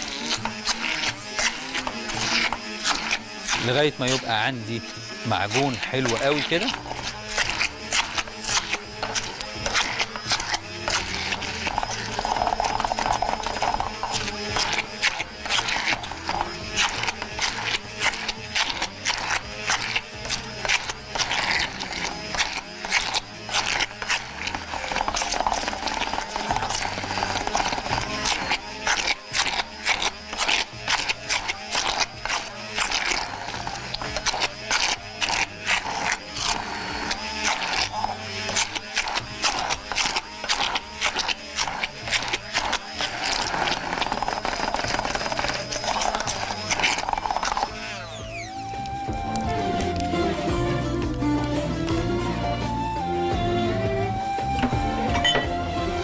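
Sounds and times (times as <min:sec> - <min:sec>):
hand blender motor whirring: 0:00.0 - 0:56.0.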